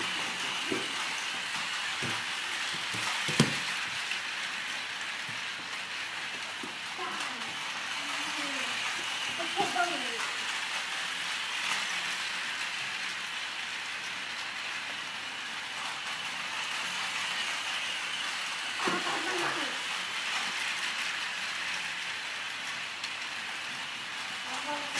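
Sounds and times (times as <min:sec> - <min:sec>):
toy train motor whirring: 0:00.0 - 0:24.9.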